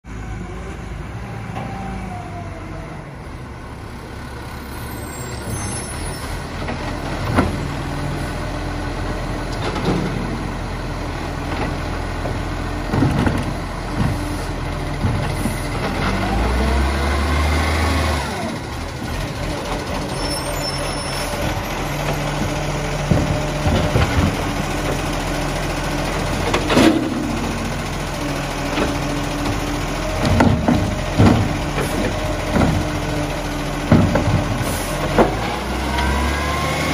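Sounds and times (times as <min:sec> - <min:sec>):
diesel truck engine running: 0:00.1 - 0:36.9.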